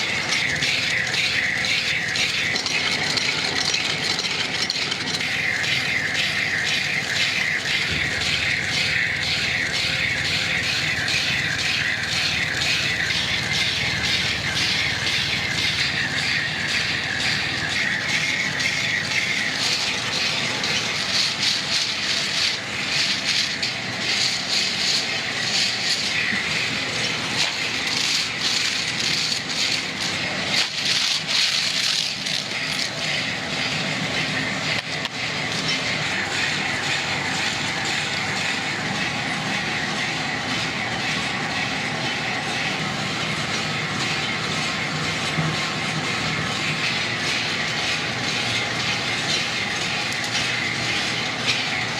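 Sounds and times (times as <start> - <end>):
factory machinery clattering: 0.0 - 51.9.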